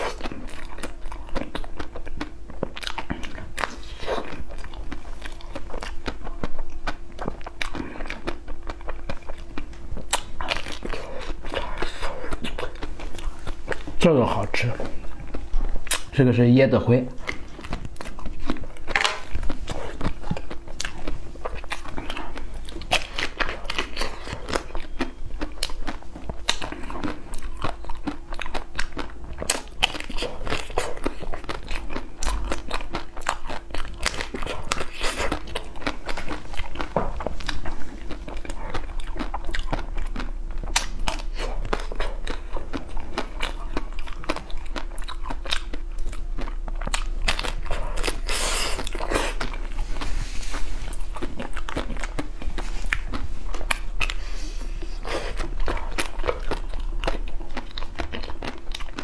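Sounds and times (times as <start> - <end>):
chewing crunchy chocolate shell: 0.0 - 59.0.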